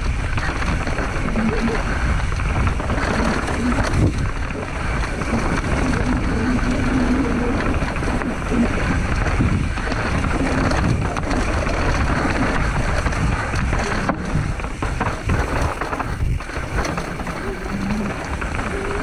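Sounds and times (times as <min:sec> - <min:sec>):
tyres rumbling on rock and gravel: 0:00.0 - 0:19.0
wind on microphone: 0:00.0 - 0:19.0.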